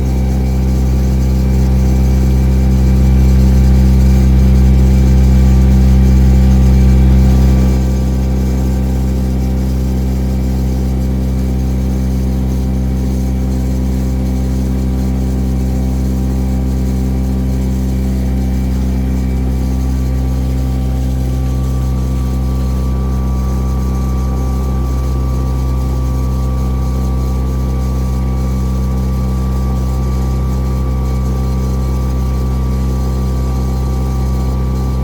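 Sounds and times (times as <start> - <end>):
boat engine droning: 0.0 - 35.0
thin steady whine: 0.0 - 35.0.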